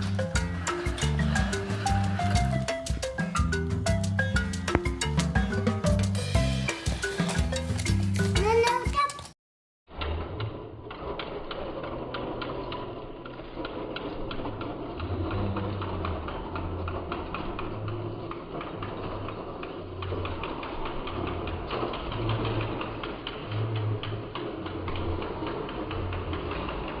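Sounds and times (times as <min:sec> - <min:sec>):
toy clicking on plastic track: 0:00.0 - 0:09.3, 0:09.9 - 0:27.0.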